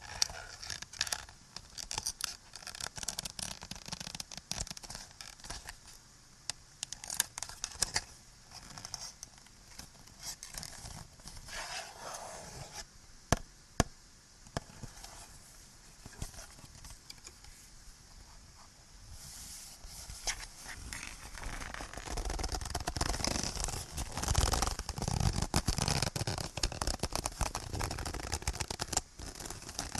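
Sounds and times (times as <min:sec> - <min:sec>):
scratching and crinkling objects: 0:00.0 - 0:06.0, 0:06.8 - 0:12.9, 0:14.5 - 0:17.6, 0:18.2 - 0:29.9
background hiss: 0:00.0 - 0:29.9.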